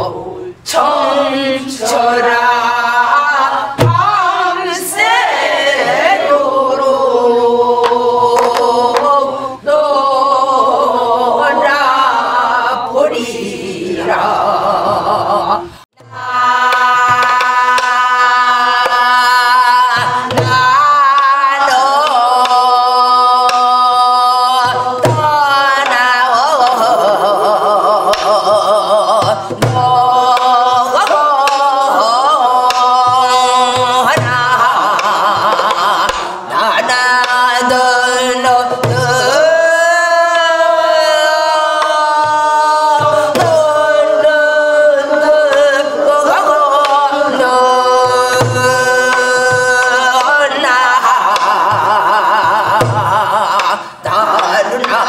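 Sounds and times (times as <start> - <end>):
woman singing with wide vibrato: 0.0 - 55.0.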